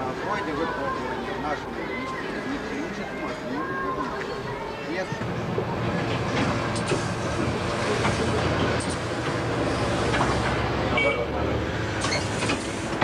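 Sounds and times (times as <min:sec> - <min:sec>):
road and traffic noise: 0:00.0 - 0:13.0
trolleybus hum: 0:00.0 - 0:13.0.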